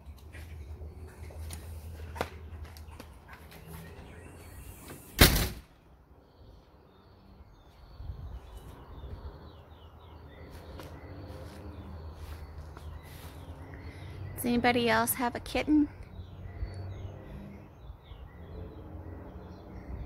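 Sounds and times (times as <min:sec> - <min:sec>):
small birds chirping: 0:00.0 - 0:05.2, 0:05.8 - 0:20.0.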